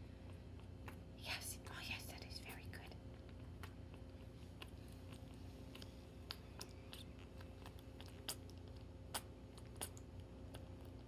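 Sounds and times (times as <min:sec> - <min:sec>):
kitten chewing clicks: 0:00.2 - 0:01.2, 0:02.8 - 0:11.0.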